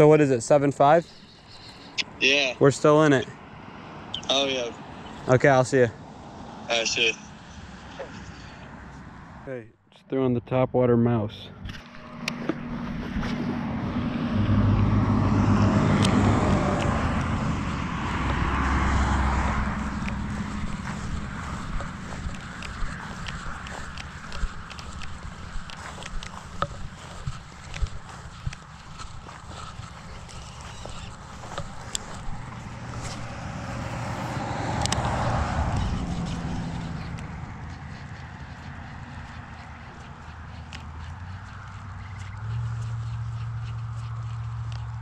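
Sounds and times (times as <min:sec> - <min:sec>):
motor vehicle passing: 0:00.0 - 0:09.6, 0:11.1 - 0:45.0
engine hum: 0:00.0 - 0:09.7, 0:10.8 - 0:45.0.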